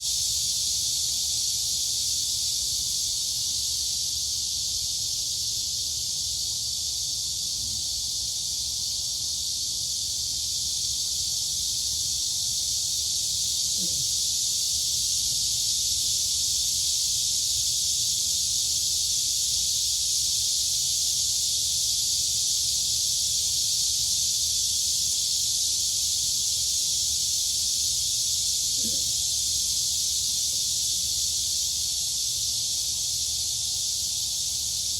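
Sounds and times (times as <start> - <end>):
crickets and cicadas chirping: 0.0 - 34.9.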